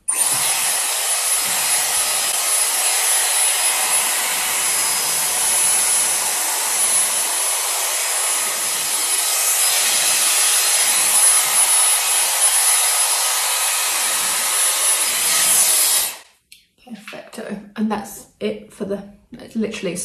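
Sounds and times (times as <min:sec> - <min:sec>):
hair styler blowing air: 0:00.0 - 0:16.3.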